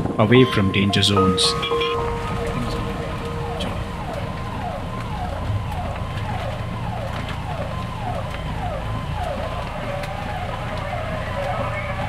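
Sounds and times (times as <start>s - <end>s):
police siren falling tone: 0.0s - 12.0s.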